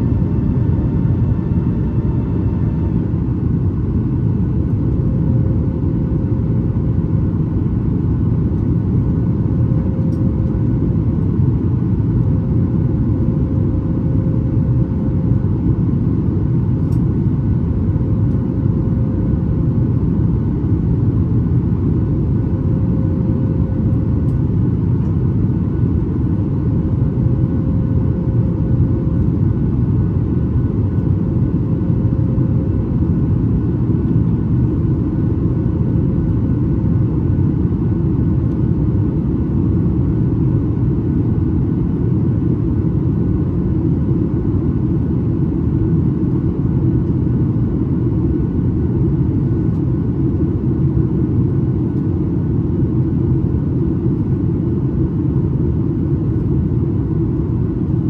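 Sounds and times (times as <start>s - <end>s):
airplane cabin rumble: 0.0s - 58.0s
faint steady hum: 0.0s - 58.0s.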